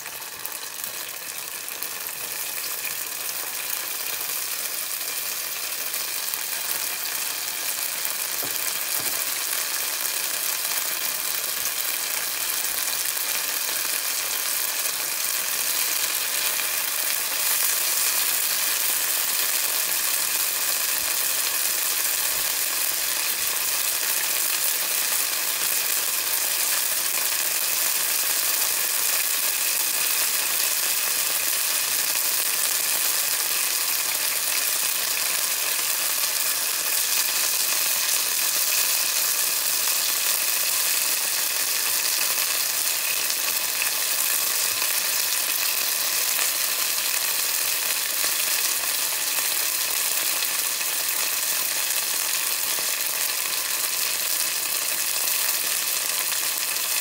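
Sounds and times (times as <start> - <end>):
peppers sizzling in oil: 0.0 - 57.0.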